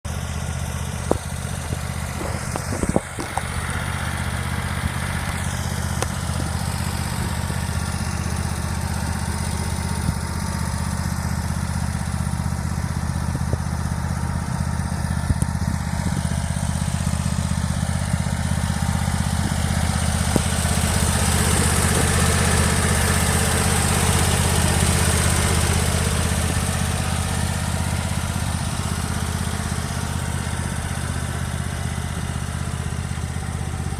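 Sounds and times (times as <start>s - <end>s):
riding mower engine running: 0.1s - 33.9s.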